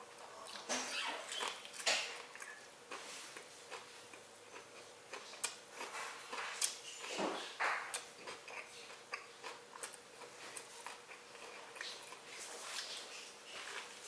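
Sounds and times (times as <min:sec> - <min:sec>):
person chewing: 0:01.3 - 0:14.0.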